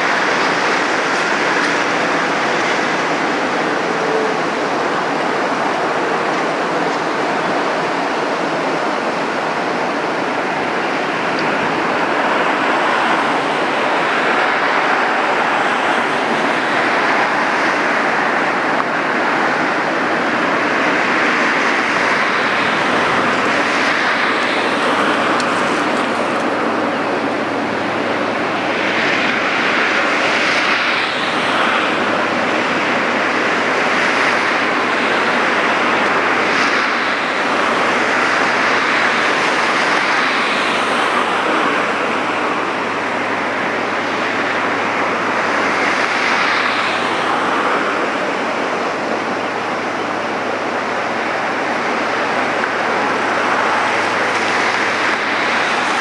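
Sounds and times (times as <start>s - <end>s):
loud rushing noise: 0.0s - 56.0s
low engine hum: 0.0s - 56.0s.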